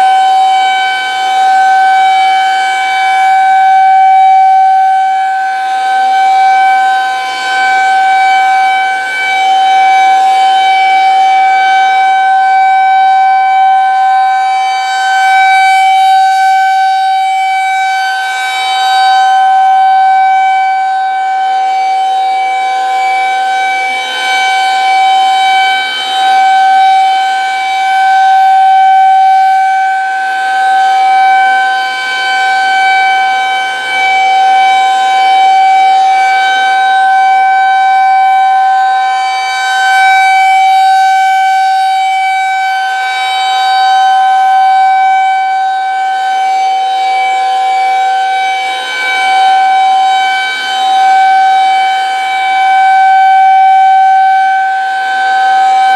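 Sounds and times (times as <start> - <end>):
rotating warning siren steady tone: 0.0 - 55.9.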